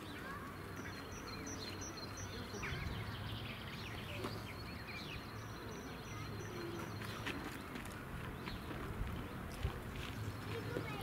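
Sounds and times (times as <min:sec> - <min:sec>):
people talking in background: 0:00.0 - 0:11.0
small birds chirping: 0:00.0 - 0:11.0.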